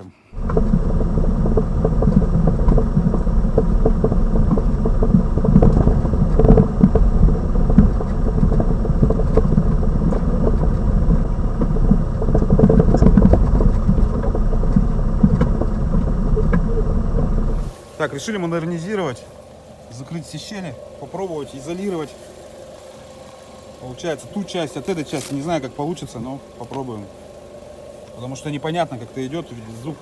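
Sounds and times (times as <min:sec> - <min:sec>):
road and tyre rumble: 0:00.4 - 0:30.0.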